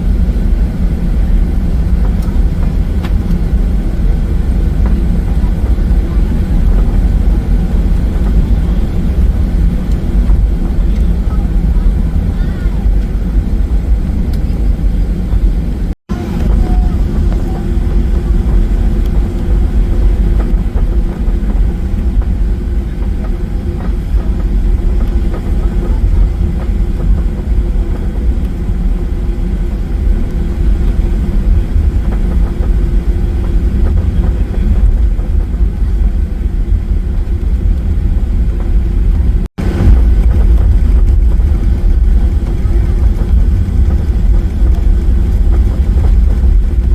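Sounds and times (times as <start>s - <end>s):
jet engine rumble in cabin: 0.0s - 46.9s.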